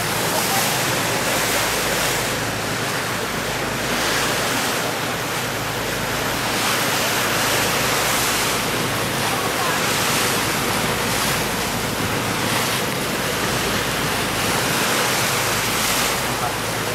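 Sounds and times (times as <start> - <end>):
sea water rushing past boat: 0.0 - 16.9.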